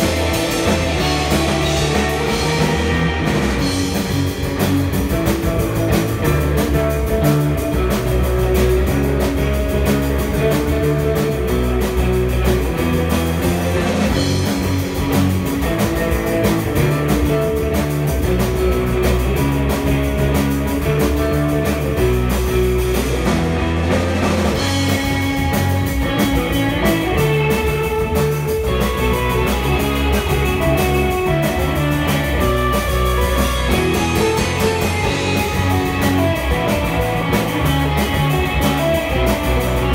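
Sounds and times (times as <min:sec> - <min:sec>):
drum kit steady beat: 0:00.0 - 0:39.9
electric guitars playing: 0:00.0 - 0:39.9.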